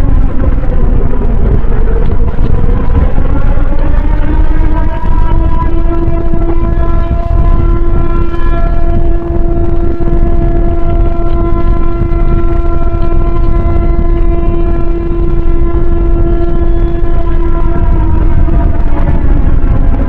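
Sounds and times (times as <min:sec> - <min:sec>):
buzzy alarm tone: 0:00.0 - 0:20.0
loud low rumble: 0:00.0 - 0:20.0.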